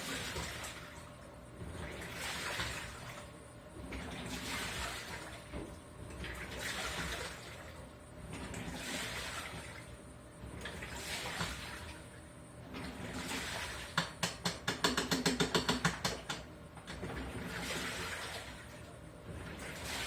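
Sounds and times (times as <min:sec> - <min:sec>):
washing machine low rumble: 0:00.0 - 0:20.0
water sloshing in washing machine: 0:00.0 - 0:20.0.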